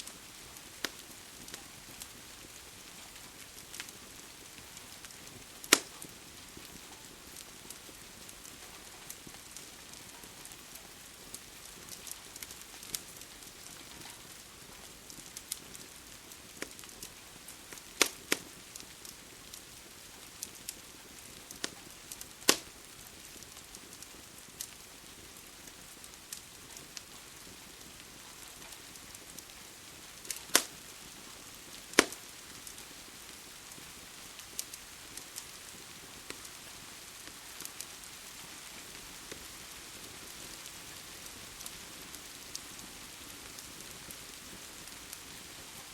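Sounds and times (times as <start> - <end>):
rain hissing: 0.0 - 45.9
wood fire crackling: 0.0 - 45.9.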